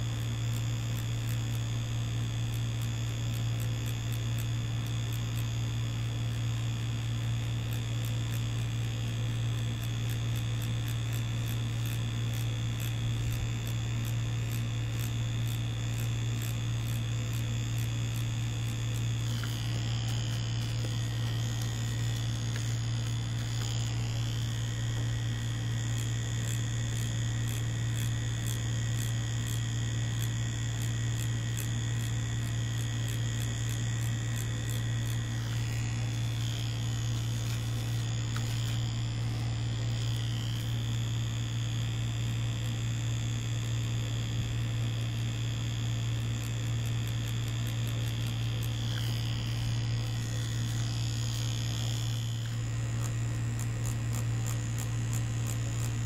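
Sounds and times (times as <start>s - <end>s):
faint high whine: 0.0s - 56.0s
tattoo machine buzzing: 0.0s - 56.0s.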